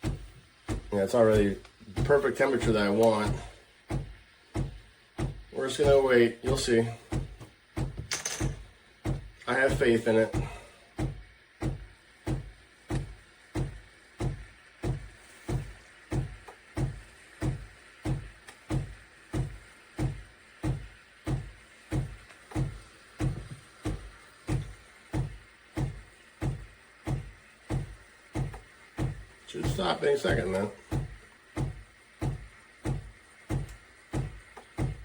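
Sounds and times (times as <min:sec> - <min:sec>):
faint steady hiss: 0:00.0 - 0:35.0
steam wand frothing milk: 0:00.0 - 0:35.0.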